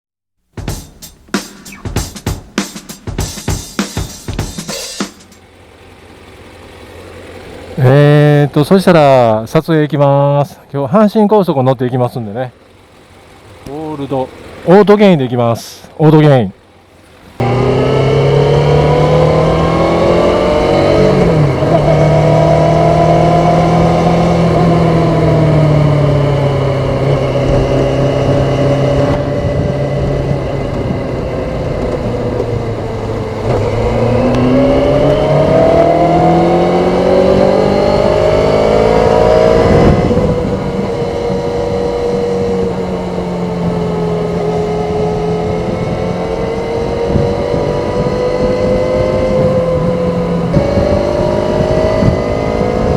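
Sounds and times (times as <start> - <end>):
motorcycle engine revving: 0.4 - 9.4, 12.2 - 52.9.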